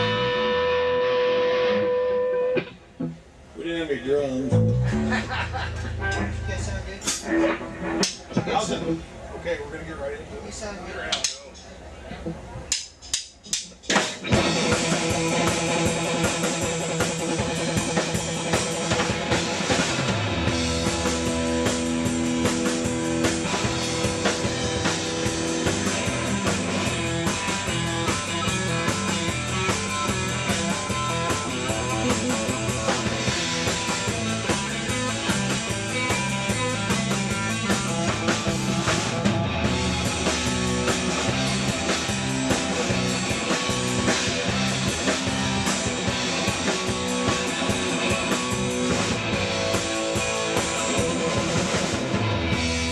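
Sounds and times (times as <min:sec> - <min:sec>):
bass line: 0:00.0 - 0:01.9, 0:04.5 - 0:08.0, 0:14.3 - 0:52.9
drum kit: 0:00.0 - 0:03.6, 0:04.5 - 0:09.2, 0:12.2 - 0:52.9
guitar: 0:00.0 - 0:09.4, 0:11.0 - 0:52.9.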